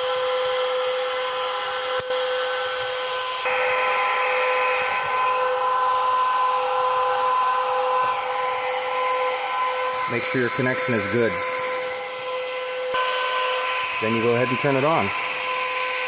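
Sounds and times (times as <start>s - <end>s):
cooling fans whining: 0.0s - 16.0s.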